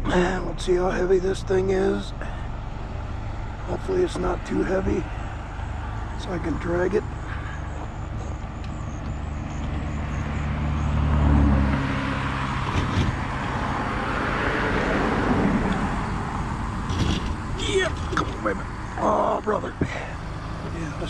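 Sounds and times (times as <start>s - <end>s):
motor vehicle engine running: 0.0s - 21.0s
passing traffic road noise: 0.0s - 21.0s.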